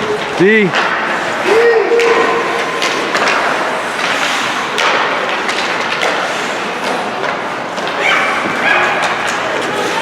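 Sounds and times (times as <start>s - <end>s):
skates on ice: 0.0s - 10.0s
sticks and puck hitting boards: 0.1s - 10.0s.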